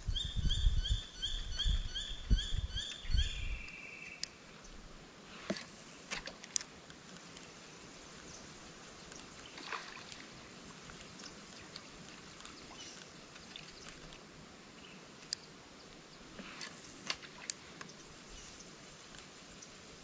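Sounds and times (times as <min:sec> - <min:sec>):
low hiss of water: 0:03.4 - 0:20.0.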